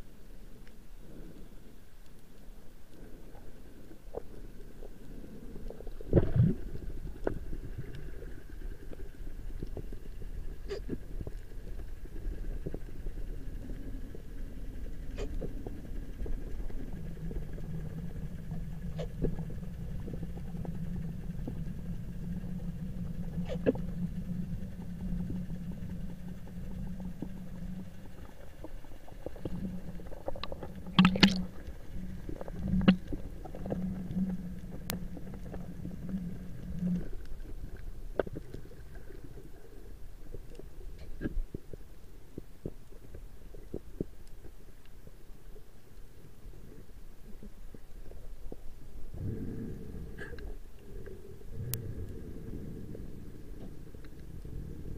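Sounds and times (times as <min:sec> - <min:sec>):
low underwater rumbling wash: 0:00.0 - 0:54.9
steady low hum: 0:00.0 - 0:54.9.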